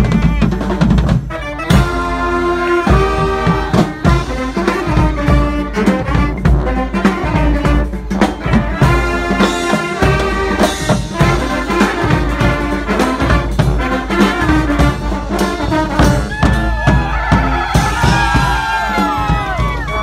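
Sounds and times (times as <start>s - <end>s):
driving drum beat: 0.0s - 20.0s
trombones and trumpets melody: 0.0s - 20.0s.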